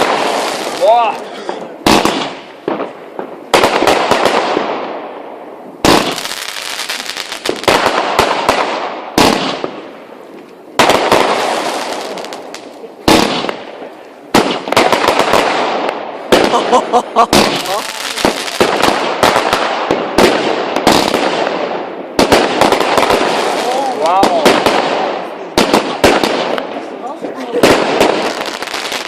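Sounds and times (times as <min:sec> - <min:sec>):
fireworks bangs: 0:00.0 - 0:29.0
fireworks crackling and fizzing: 0:00.0 - 0:29.0.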